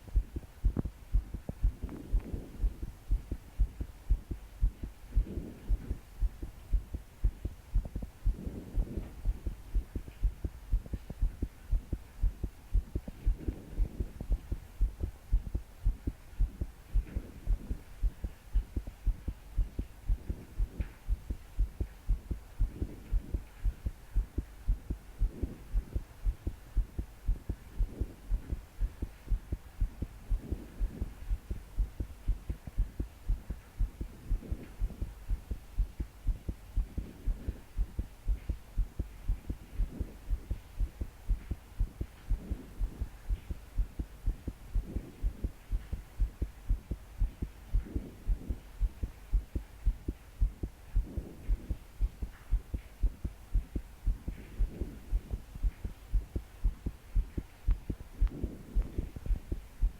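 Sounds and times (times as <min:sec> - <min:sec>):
heart pounding: 0:00.0 - 0:59.9.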